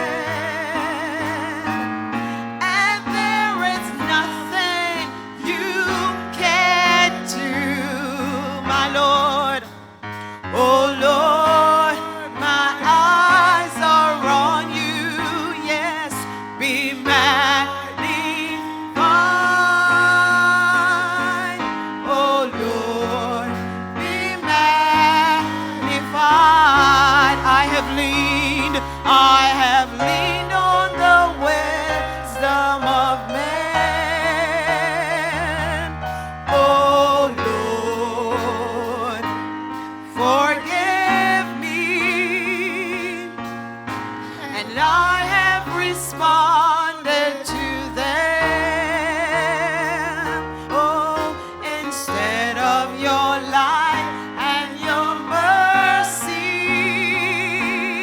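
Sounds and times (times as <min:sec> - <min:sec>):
keyboard and bass accompaniment: 0:00.0 - 0:58.0
singer with wide vibrato: 0:00.0 - 0:58.0.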